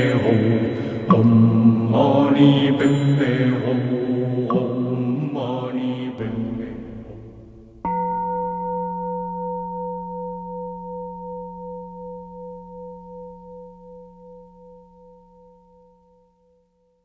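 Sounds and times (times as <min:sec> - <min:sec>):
singing bowl ringing: 0:00.0 - 0:04.8, 0:07.8 - 0:17.0.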